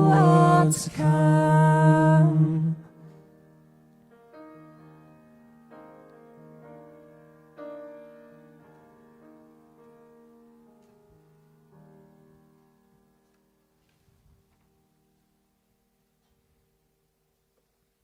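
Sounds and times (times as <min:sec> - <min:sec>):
soft slow piano carol: 0:00.0 - 0:18.0.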